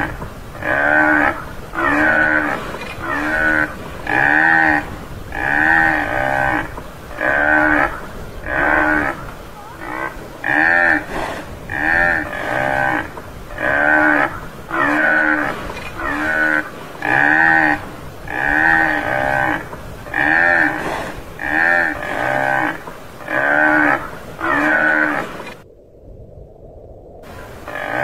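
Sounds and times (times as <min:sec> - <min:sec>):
buffalo calling: 0:00.0 - 0:25.6, 0:27.3 - 0:28.0.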